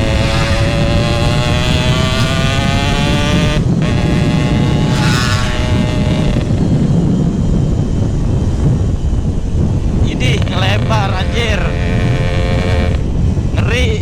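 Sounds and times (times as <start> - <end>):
two-stroke motorcycle engine revving: 0.0 - 13.5
wind rumble on microphone: 0.0 - 14.0.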